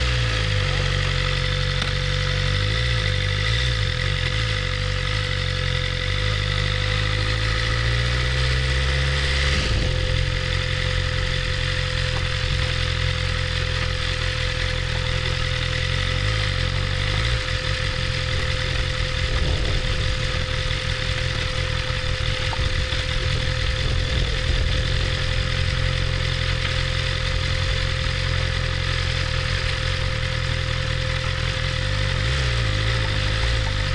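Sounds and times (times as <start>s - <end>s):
motorcycle engine running at low revs: 0.0s - 33.9s.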